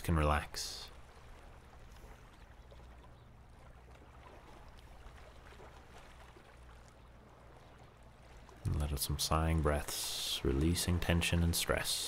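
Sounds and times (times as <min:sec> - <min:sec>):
water lapping on rocky shore: 0:00.9 - 0:12.0.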